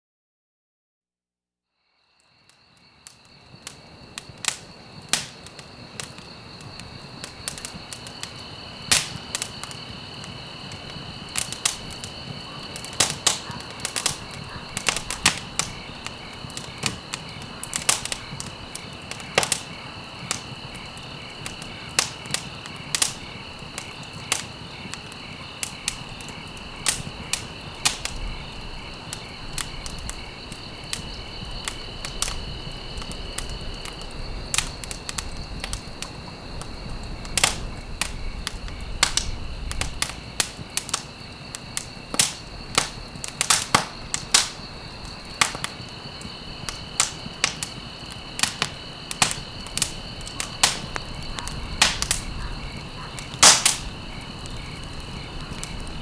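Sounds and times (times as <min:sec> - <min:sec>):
wood fire crackling: 0:02.2 - 0:56.0.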